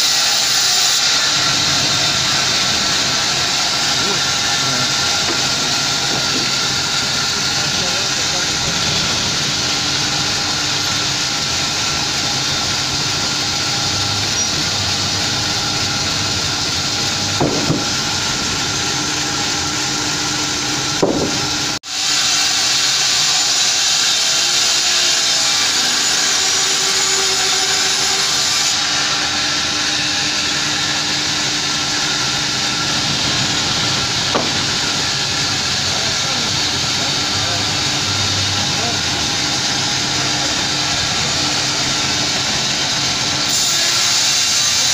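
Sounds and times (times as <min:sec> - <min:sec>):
band sawmill running: 0:00.0 - 0:44.9.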